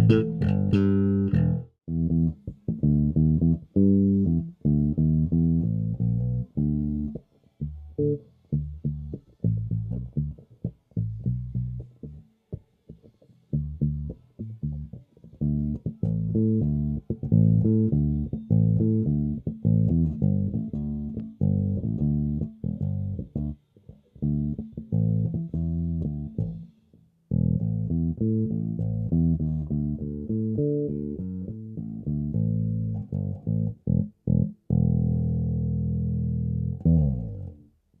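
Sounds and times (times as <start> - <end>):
electric bass plucked: 0.0 - 37.8.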